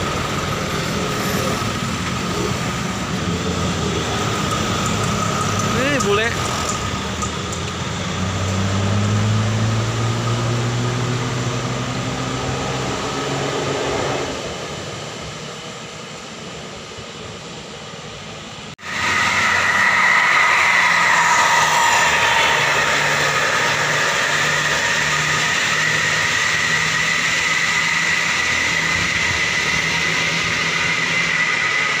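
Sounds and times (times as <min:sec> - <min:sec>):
vehicle engine passing: 0:00.0 - 0:15.0, 0:18.8 - 0:32.0
high-pitched whine: 0:00.0 - 0:32.0.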